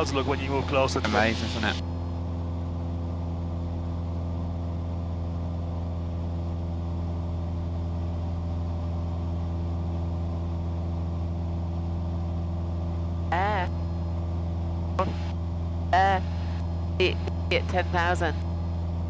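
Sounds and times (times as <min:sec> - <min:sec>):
airplane propeller engine droning: 0:00.0 - 0:19.0.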